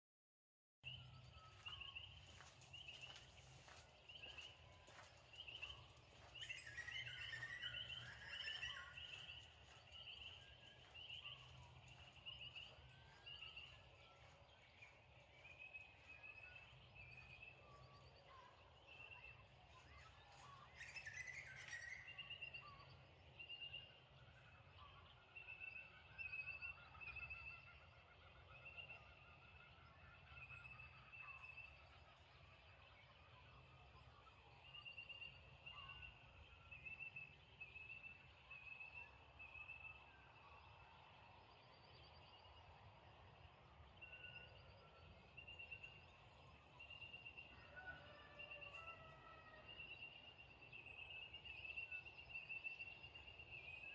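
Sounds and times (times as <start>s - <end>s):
small birds chirping: 0.8s - 53.9s.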